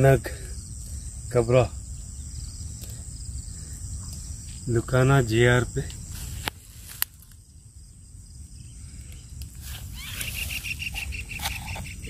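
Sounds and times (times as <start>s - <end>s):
fast-pulsed insect chirping: 0.0s - 12.0s.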